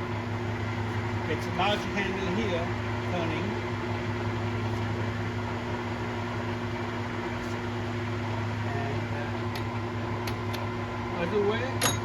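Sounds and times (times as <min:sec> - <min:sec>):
lathe motor humming: 0:00.0 - 0:11.8.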